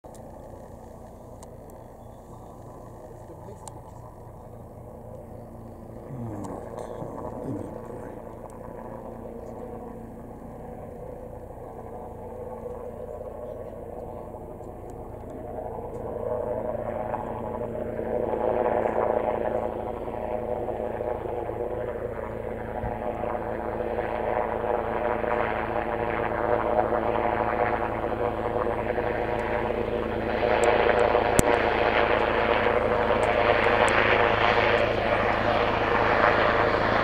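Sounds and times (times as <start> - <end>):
helicopter engine and rotor: 0.1 - 37.0.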